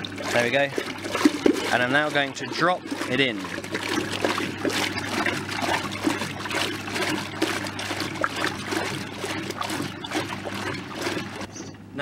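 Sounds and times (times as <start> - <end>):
low electric motor hum: 0.0 - 12.0
water sloshing in washing machine: 0.0 - 12.0.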